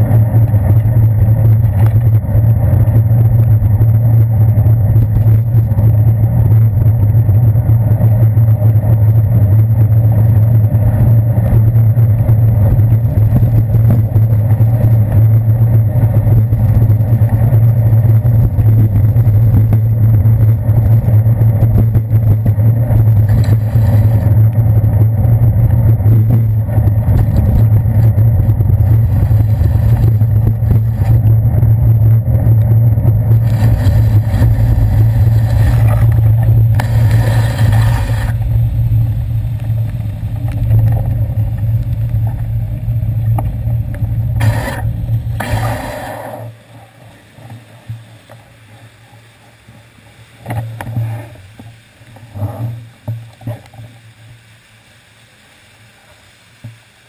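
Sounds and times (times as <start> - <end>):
traffic drone with hiss: 0.0 - 57.0.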